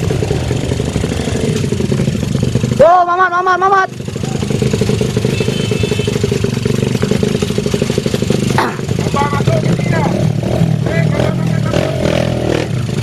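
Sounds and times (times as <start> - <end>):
dirt bikes chugging at low revs: 0.0 - 13.0.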